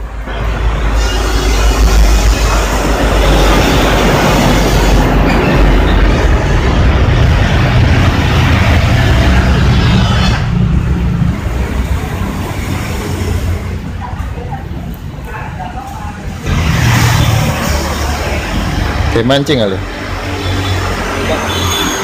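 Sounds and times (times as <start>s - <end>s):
heavy vehicle passing close: 0.0s - 14.9s, 15.5s - 22.0s.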